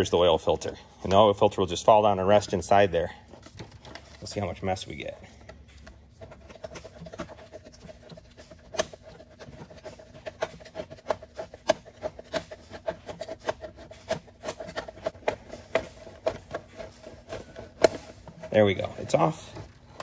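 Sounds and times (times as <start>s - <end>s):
gloved hands unscrewing oil filter: 0.0s - 20.0s.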